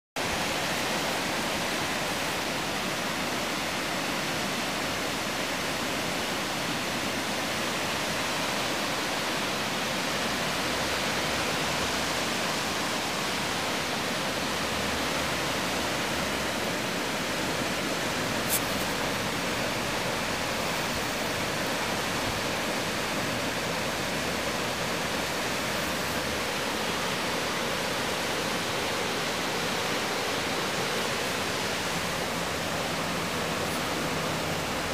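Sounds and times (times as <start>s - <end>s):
river rapids rushing: 0.2s - 34.9s.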